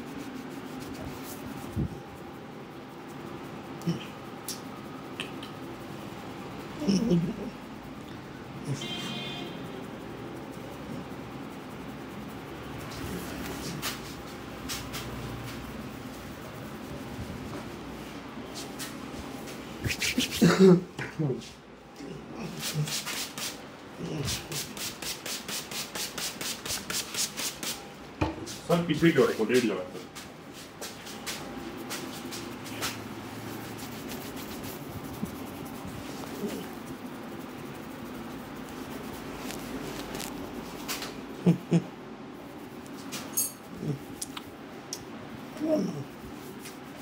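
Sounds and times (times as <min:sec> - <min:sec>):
fingers rubbing through hair: 0:00.0 - 0:08.9, 0:09.5 - 0:20.6, 0:22.3 - 0:27.9, 0:28.5 - 0:47.0.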